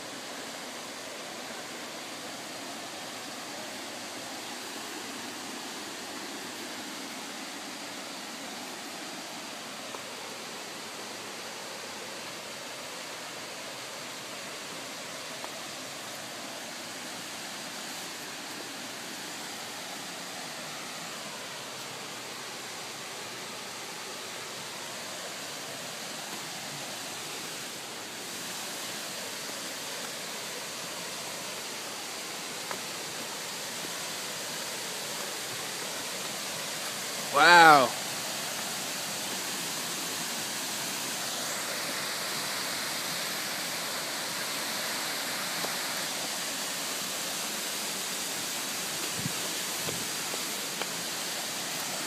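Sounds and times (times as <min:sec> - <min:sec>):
waterfall rushing water: 0:00.0 - 0:52.0.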